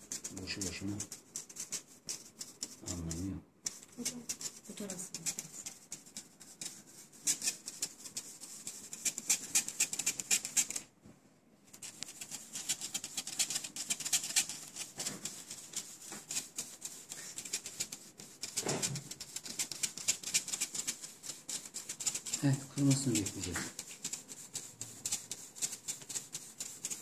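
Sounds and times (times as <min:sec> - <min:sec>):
gold leaf scratching through sieve: 0:00.0 - 0:10.9, 0:11.8 - 0:27.0.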